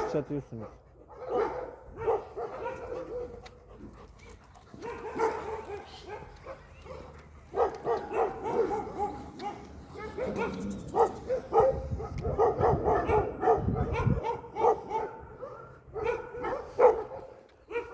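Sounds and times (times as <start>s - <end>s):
dogs barking and yipping: 0.0s - 17.9s.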